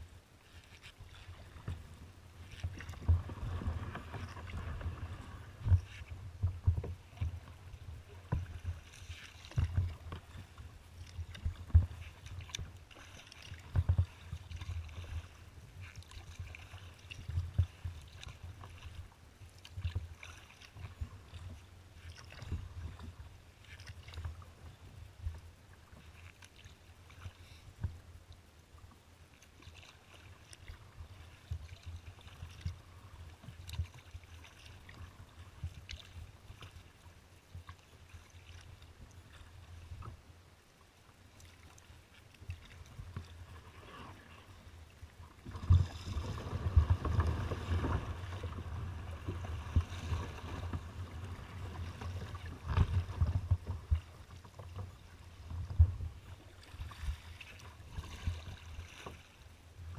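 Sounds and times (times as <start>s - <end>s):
paddle splashing water: 0.0s - 59.9s.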